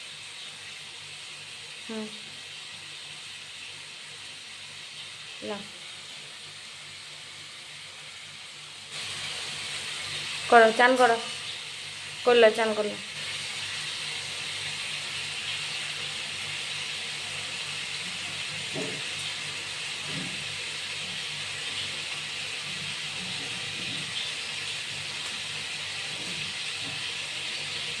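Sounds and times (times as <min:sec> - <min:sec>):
running water hissing: 0:00.0 - 0:28.0.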